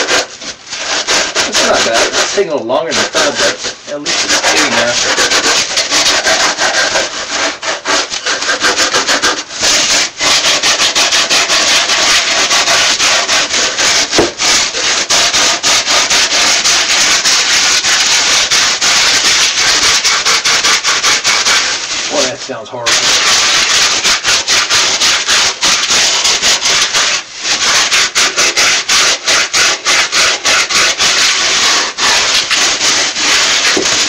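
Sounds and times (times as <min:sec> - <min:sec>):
sandpaper scratching on foam: 0:00.0 - 0:34.0.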